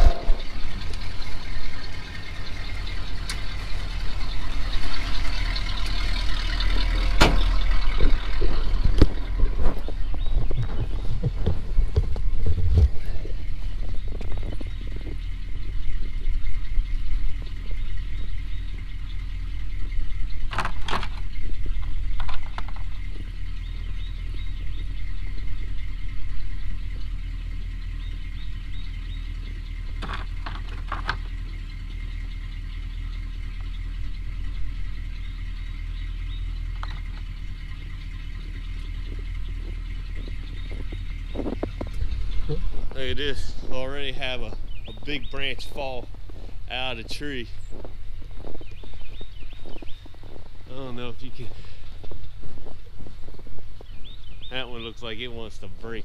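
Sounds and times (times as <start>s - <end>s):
pickup truck engine idling: 0.0s - 56.0s.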